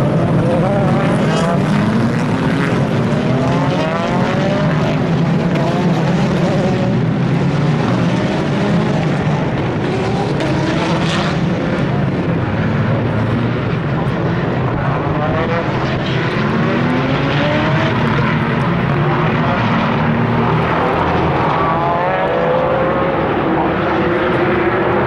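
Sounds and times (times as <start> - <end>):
race cars accelerating: 0.0 - 25.0.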